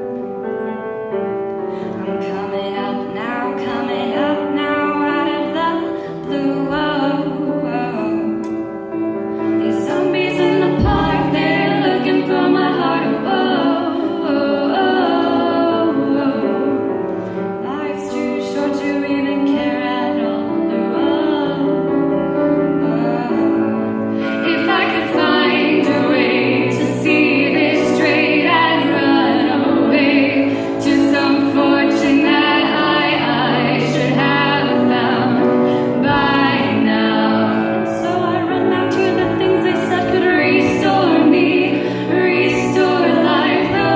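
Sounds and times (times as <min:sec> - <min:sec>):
instrumental accompaniment: 0:00.0 - 0:43.9
harmony vocals: 0:01.3 - 0:43.9
woman singing: 0:01.8 - 0:43.9.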